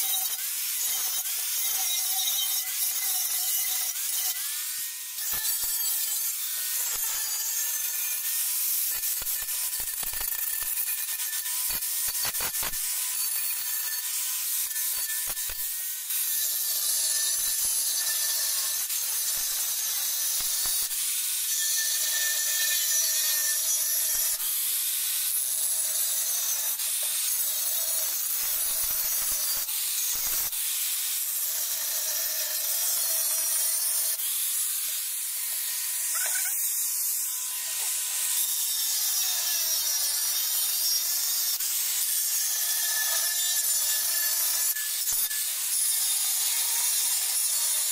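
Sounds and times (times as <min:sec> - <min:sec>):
angle grinder cutting cement: 0:00.0 - 0:47.9.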